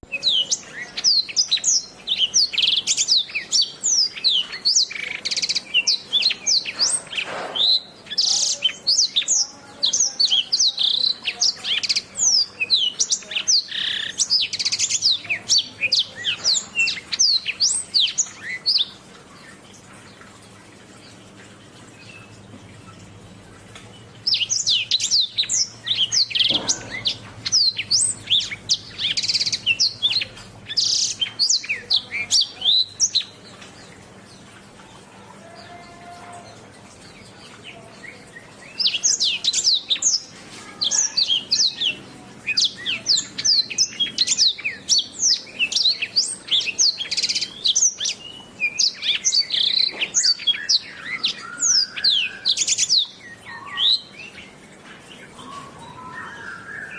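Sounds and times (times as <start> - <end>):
canary singing: 0.0 - 19.5, 21.8 - 56.9.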